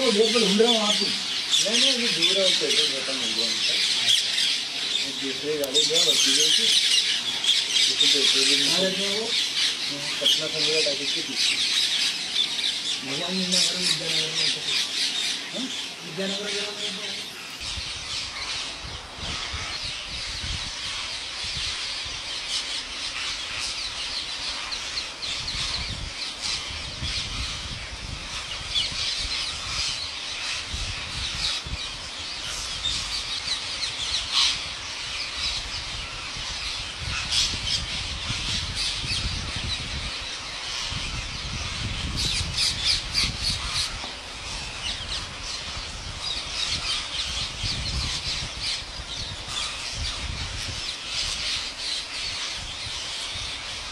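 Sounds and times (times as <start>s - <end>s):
parakeet flock squawking: 0.0s - 53.9s.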